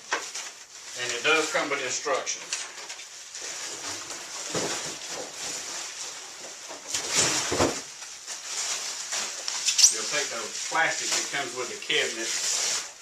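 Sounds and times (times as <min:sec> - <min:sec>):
rustling of packing material: 0:00.0 - 0:13.0.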